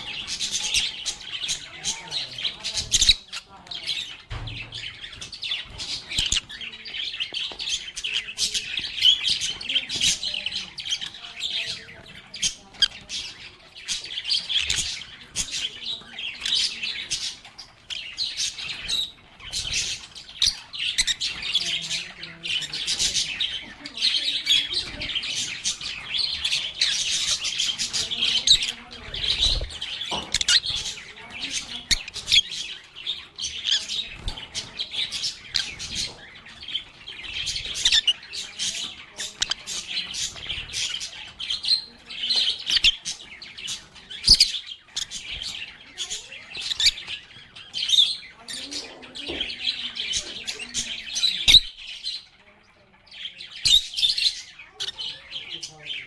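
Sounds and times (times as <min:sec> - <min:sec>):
lovebirds chirping and squawking: 0:00.0 - 0:56.0.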